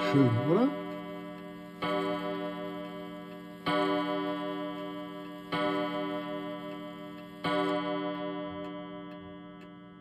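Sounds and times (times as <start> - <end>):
clock tick-tock: 0.0 - 10.0.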